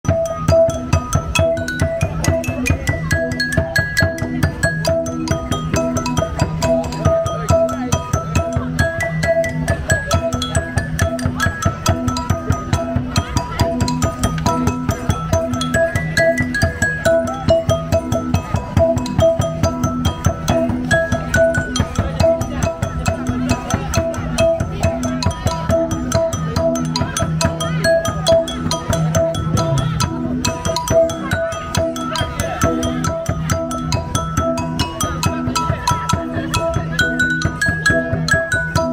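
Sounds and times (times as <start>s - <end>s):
stone lithophone melody: 0.0s - 38.9s
drum strokes: 0.1s - 38.9s.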